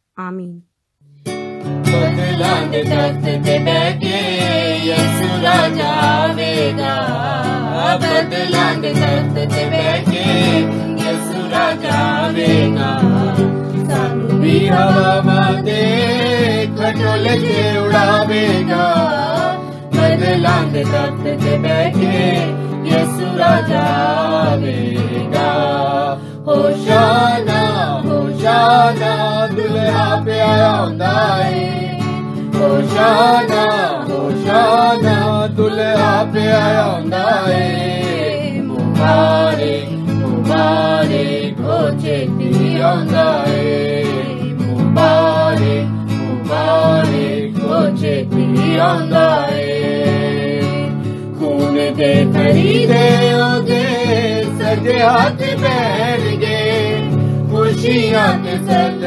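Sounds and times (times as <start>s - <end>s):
guitar: 0.0s - 59.0s
person singing: 1.8s - 59.0s.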